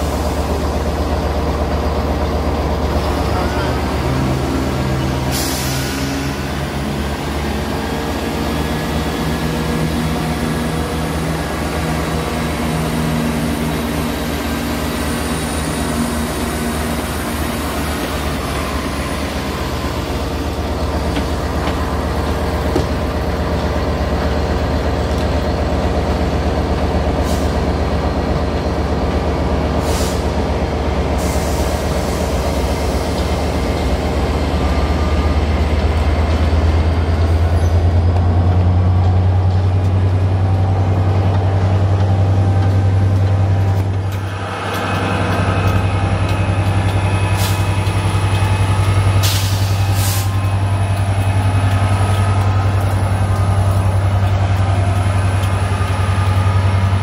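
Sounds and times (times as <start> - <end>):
diesel train engines droning: 0.0 - 57.0
train rumbling: 0.0 - 57.0.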